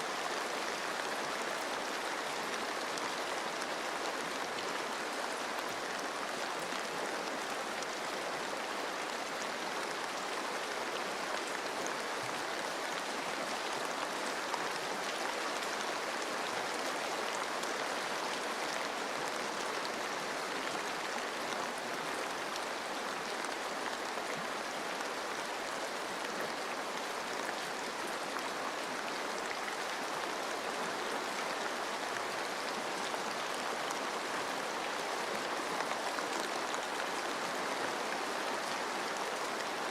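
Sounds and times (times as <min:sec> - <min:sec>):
rain falling on leaves: 0:00.0 - 0:39.9
running stream water: 0:00.0 - 0:39.9.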